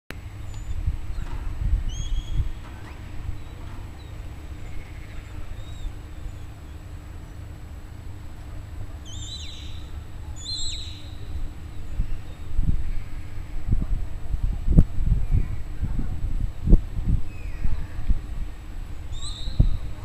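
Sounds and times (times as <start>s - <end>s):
low rumble: 0.1s - 20.0s.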